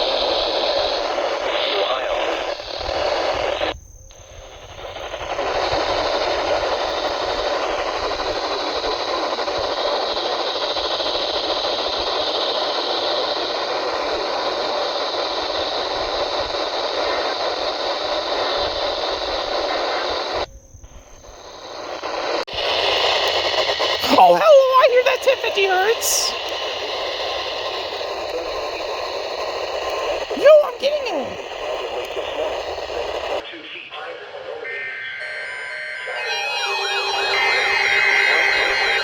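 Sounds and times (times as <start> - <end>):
radio static hiss: 0.0 - 35.2, 36.2 - 39.0.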